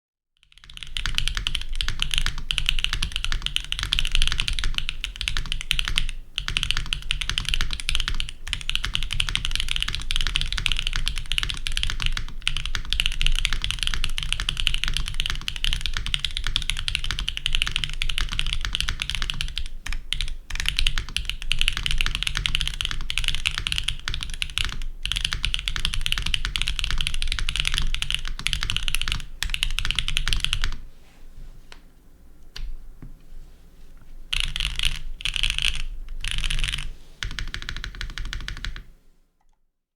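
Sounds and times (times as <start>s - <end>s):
fast mechanical keyboard typing: 0.4s - 30.8s, 34.3s - 38.9s.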